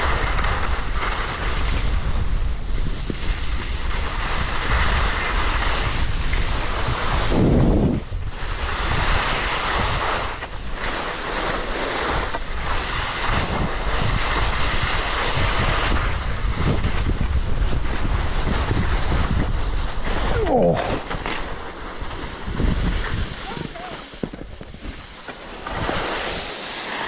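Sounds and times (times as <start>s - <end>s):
skis scraping over snow: 0.0s - 27.0s
wind on microphone: 0.0s - 27.0s.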